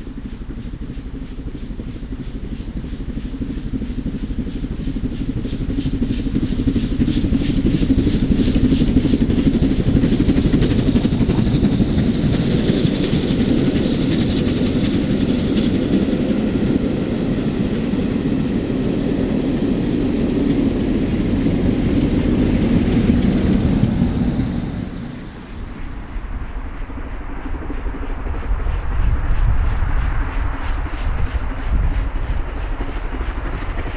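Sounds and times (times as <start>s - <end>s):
steam locomotive exhaust beating: 0.0s - 33.9s
train coaches rolling by: 0.0s - 33.9s.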